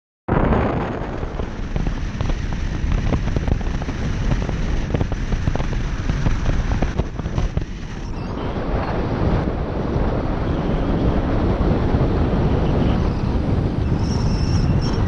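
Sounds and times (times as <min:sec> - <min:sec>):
wind rumble on microphone: 0:00.3 - 0:15.0.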